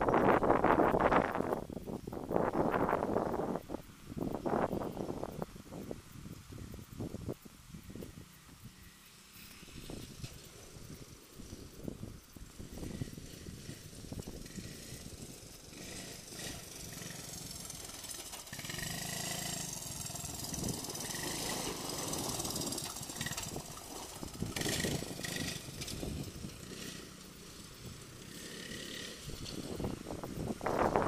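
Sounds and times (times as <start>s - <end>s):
three-wheeler engine running: 0.0s - 31.0s.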